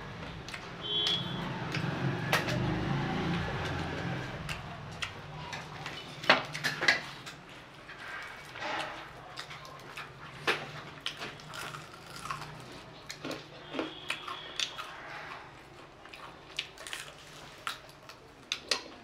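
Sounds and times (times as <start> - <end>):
crunchy chewing with mouth clicks: 3.5 - 19.0.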